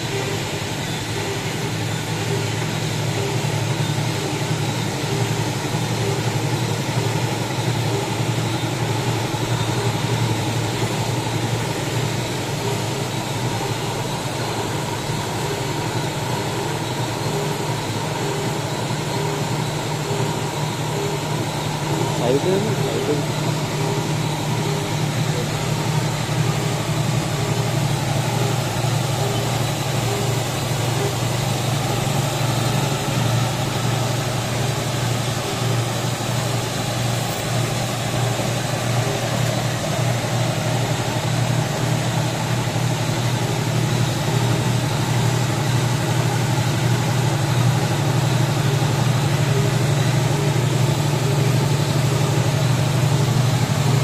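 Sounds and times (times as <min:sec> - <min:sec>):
machine low mechanical hum: 0:00.0 - 0:54.0.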